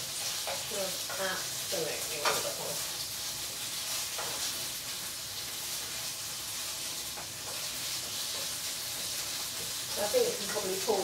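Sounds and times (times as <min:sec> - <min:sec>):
meat sizzling in frying pan: 0:00.0 - 0:11.0.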